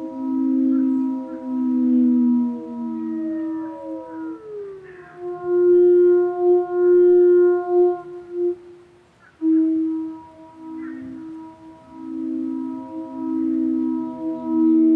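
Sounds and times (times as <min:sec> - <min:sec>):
steady ringing drone: 0:00.0 - 0:14.9
theremin sliding notes: 0:00.0 - 0:14.9.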